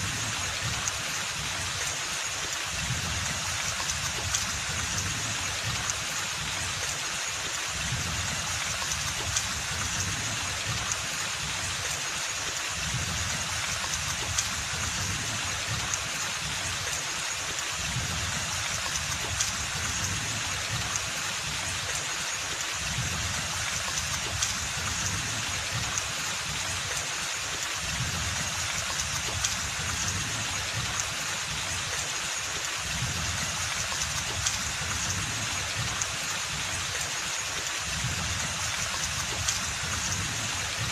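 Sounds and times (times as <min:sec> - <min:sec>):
steady rain hiss: 0:00.0 - 0:40.9
raindrop ticks: 0:00.3 - 0:40.9.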